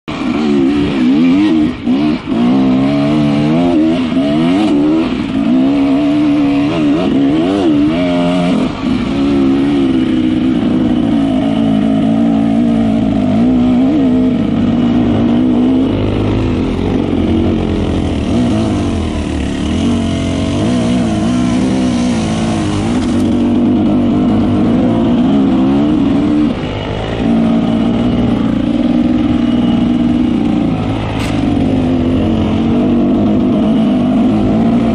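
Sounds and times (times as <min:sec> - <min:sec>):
dirt bike engines revving: 0:00.1 - 0:34.9.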